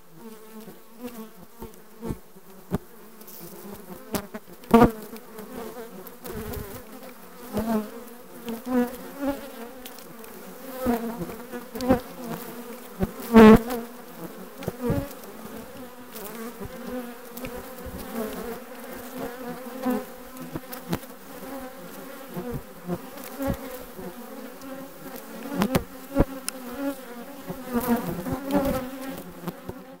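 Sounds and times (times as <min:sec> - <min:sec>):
bee flying close past: 0:00.1 - 0:30.0
bees buzzing: 0:00.2 - 0:30.0.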